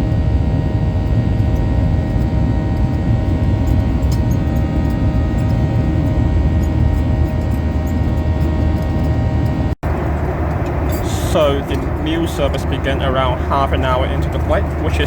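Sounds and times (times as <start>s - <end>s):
airplane cabin engine drone: 0.0s - 15.0s
constant whining tones: 0.0s - 15.0s.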